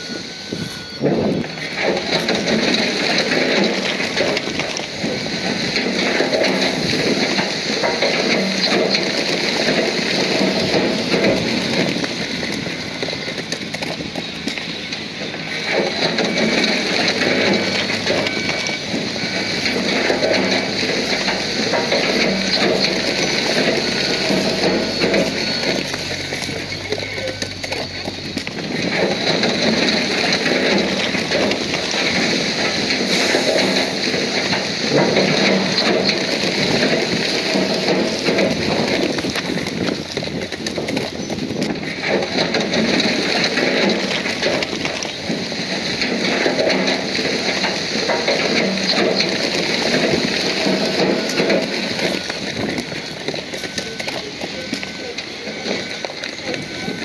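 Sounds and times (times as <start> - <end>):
diesel engine running: 0.0 - 57.0
steel tracks clattering: 0.0 - 57.0.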